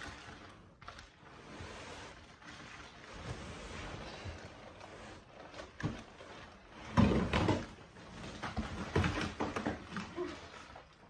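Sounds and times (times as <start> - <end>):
plastic wrap scraping on cardboard: 0.0 - 11.0.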